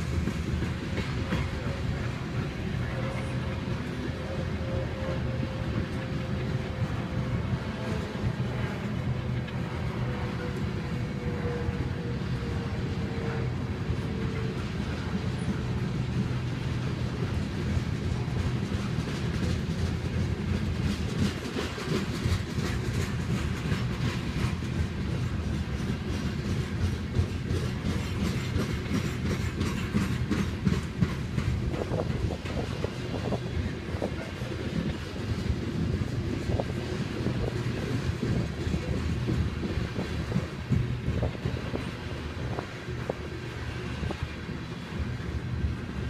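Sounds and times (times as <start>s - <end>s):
freight train rolling past: 0.0s - 46.0s
wheels clicking over rail joints: 0.0s - 46.0s.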